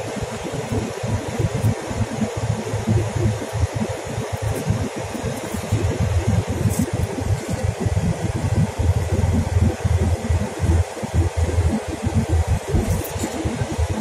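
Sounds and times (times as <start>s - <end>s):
bus cabin rumble and hiss: 0.0s - 14.0s
choppy low buffeting: 0.0s - 14.0s.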